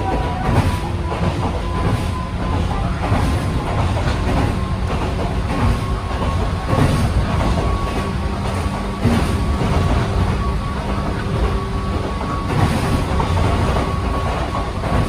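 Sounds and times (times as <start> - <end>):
thin steady whine: 0.0 - 15.0
train wheels rumbling on rails: 0.0 - 15.0.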